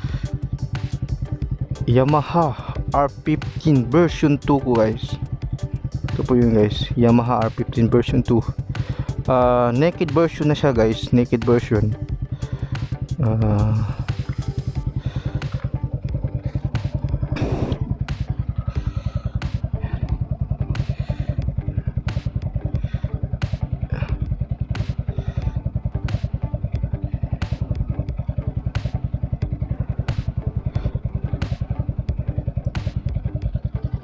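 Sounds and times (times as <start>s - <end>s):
motorcycle engine idling: 0.0s - 34.0s
sharp ticking: 0.0s - 34.0s.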